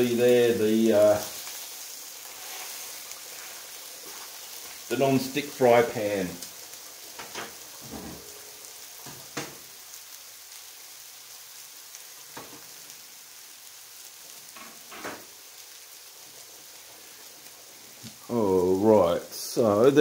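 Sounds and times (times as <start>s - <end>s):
patties sizzling in a frying pan: 0.0s - 20.0s.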